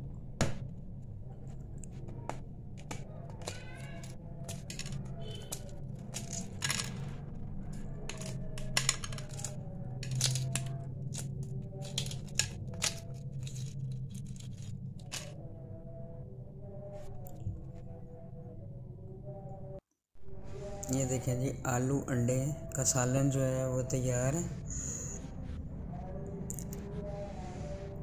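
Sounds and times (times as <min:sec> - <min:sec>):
low hum: 0:04.0 - 0:28.0.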